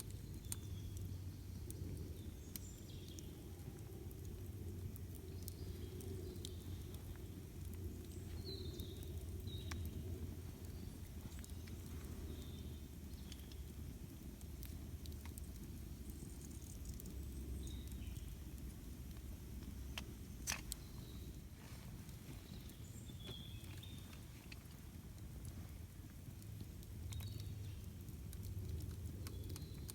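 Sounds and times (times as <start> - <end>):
birds chirping faintly: 0.0 - 29.9
campfire crackling: 0.0 - 29.9
low steady rumble: 0.0 - 29.9.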